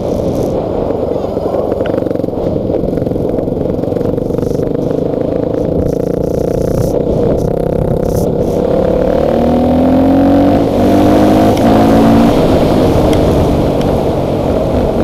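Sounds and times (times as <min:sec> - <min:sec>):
road rumble: 0:00.0 - 0:15.0.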